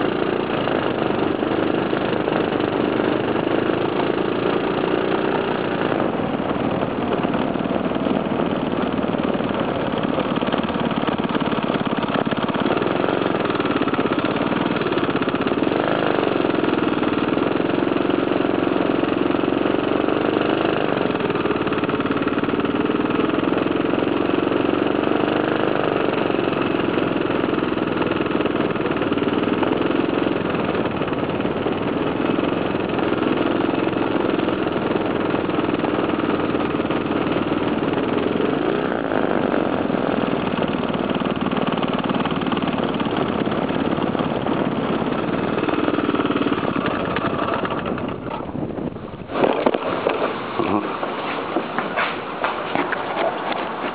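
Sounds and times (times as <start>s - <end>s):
small engine revving: 0.0s - 53.9s.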